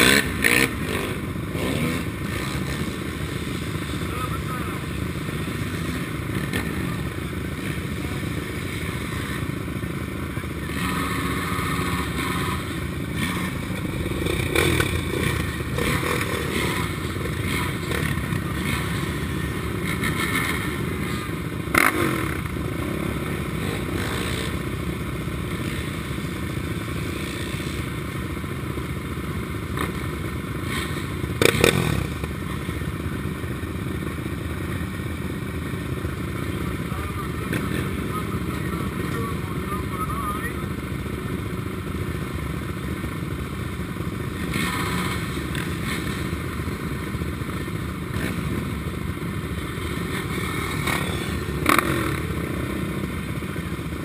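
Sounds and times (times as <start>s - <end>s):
quad engines idling: 0.0s - 54.0s.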